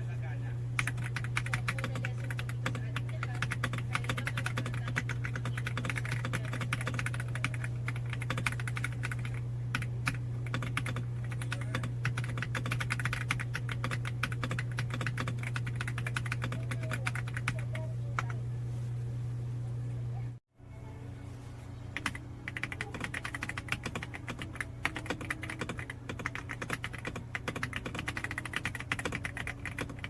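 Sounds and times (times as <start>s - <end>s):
steady low hum: 0.0s - 30.0s
mechanical keyboard typing: 0.8s - 18.3s, 22.0s - 30.0s.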